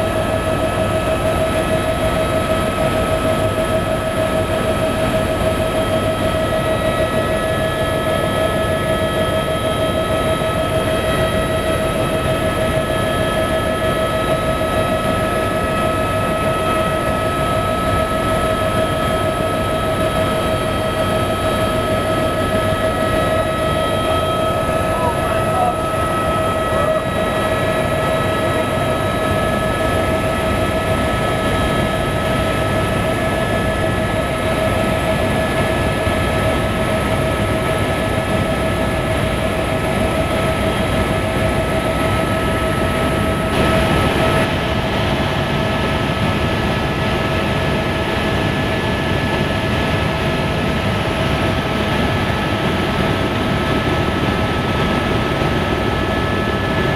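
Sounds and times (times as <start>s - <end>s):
helicopter rotor rumble: 0.0s - 56.9s
high engine whine: 0.0s - 56.9s.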